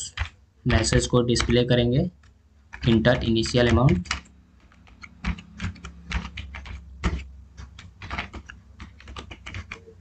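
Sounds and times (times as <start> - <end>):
computer keyboard typing: 0.0 - 10.0.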